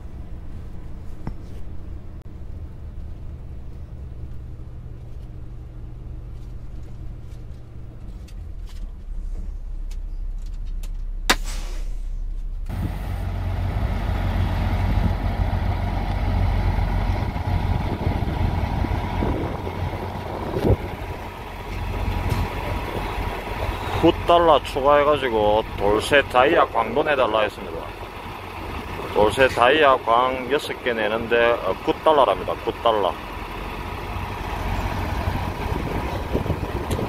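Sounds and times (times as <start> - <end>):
diesel truck engine idling: 1.7 - 37.0.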